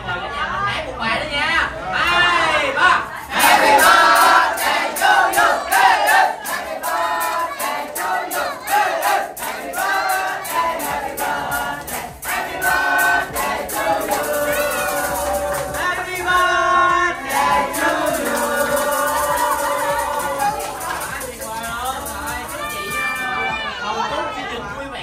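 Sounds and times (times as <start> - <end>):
group of voices singing: 2.1 - 23.2
music with steady beat: 3.4 - 23.6.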